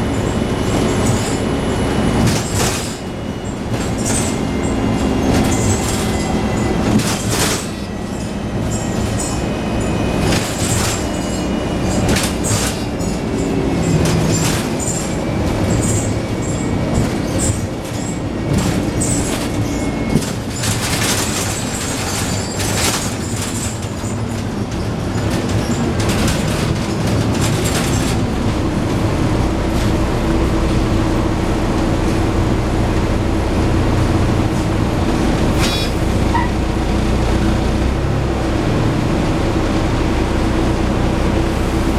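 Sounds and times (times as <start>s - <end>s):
bus engine droning: 0.0s - 41.9s
rattling and knocking of bus body: 0.0s - 41.9s.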